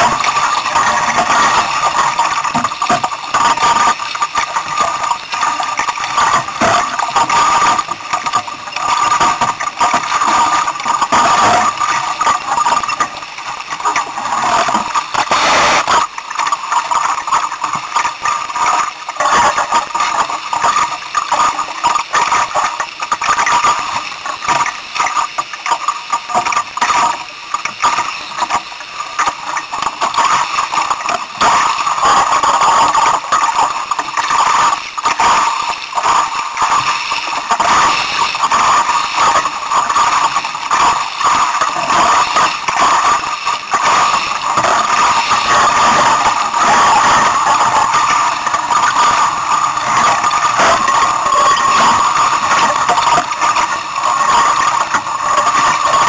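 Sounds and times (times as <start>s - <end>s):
water rushing along hull: 0.0s - 56.0s.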